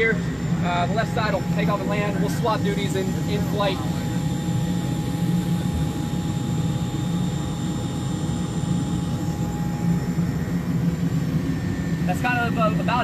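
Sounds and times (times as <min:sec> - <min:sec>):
gas turbine drone: 0:00.0 - 0:13.0
thin steady whine: 0:00.0 - 0:13.0.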